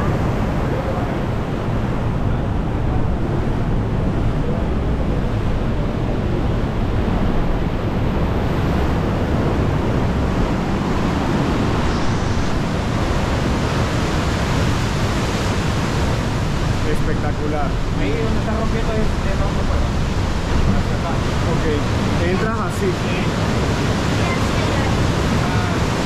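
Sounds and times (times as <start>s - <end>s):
ocean surf in a sea cave: 0.0s - 26.0s
wind on microphone: 0.0s - 26.0s.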